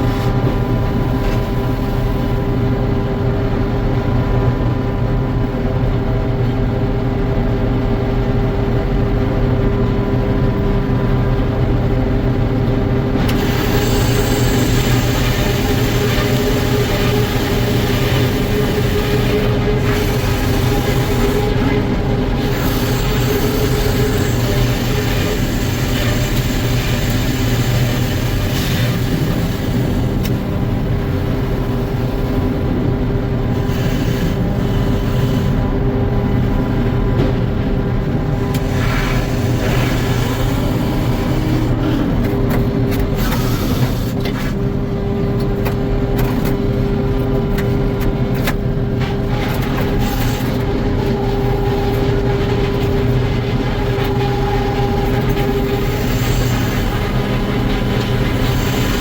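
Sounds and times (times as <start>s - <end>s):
sawmill machinery humming: 10.2s - 59.0s.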